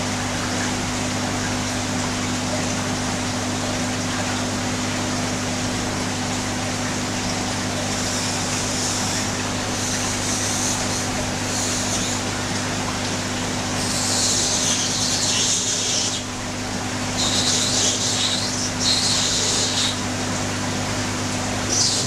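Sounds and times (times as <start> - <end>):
aquarium equipment humming: 0.0 - 22.0.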